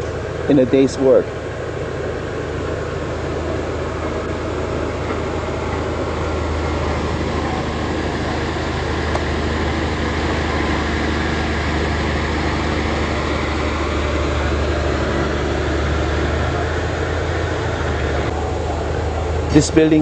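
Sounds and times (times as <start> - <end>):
mechanical rumble with low hum: 0.0 - 20.0.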